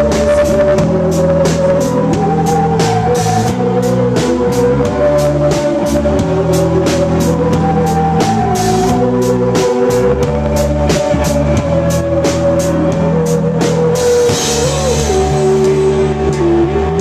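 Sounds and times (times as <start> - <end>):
drum kit beat: 0.0 - 17.0
live band playing instrumental: 0.0 - 17.0.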